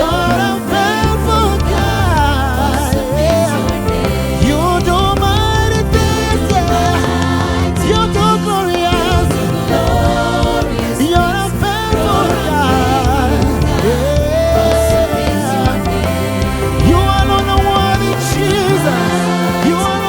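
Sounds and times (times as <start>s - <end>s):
gospel band playing: 0.0s - 20.0s
voices singing wordless runs: 0.0s - 20.0s.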